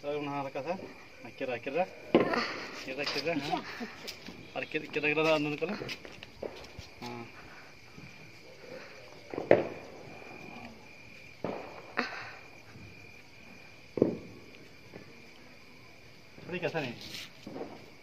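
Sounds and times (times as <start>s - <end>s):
insects chirring: 0.0s - 18.0s
firecrackers banging: 2.0s - 15.2s, 16.4s - 18.0s.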